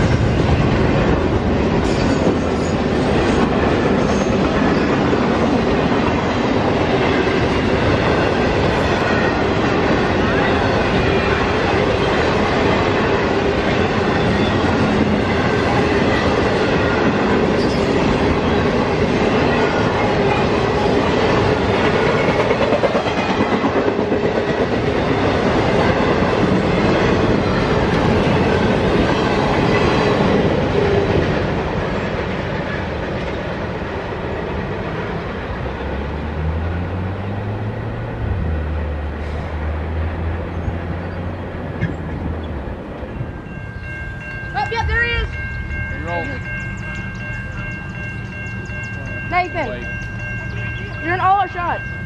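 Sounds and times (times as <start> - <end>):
freight train rumbling and rattling: 0.0 - 52.0.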